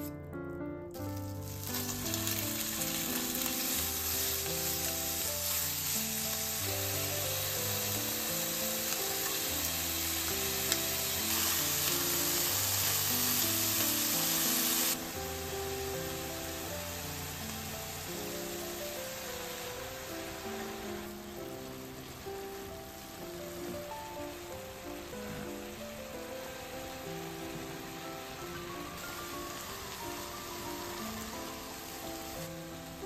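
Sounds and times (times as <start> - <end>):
soft background music: 0.0 - 33.0
food sizzling in oil: 1.0 - 33.0.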